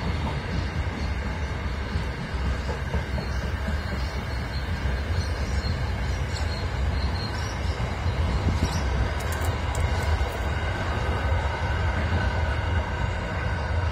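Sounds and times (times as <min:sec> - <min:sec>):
train wheels rumbling on rail: 0:00.0 - 0:13.9.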